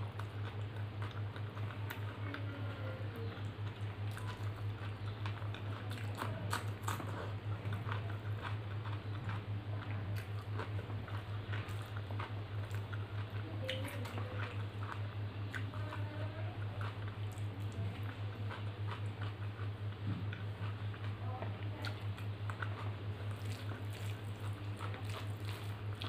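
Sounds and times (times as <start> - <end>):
chewing and wet mouth sounds: 0.0 - 26.0
low pulsing hum: 0.0 - 26.0.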